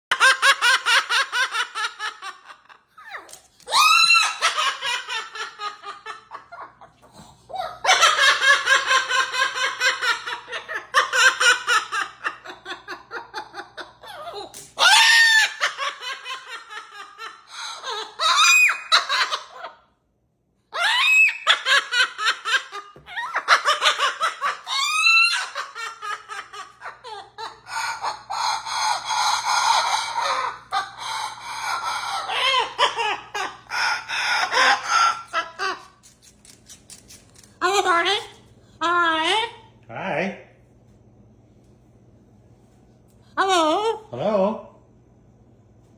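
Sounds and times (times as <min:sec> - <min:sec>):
parrot imitating laughter: 0:00.1 - 0:20.0, 0:20.7 - 0:39.7.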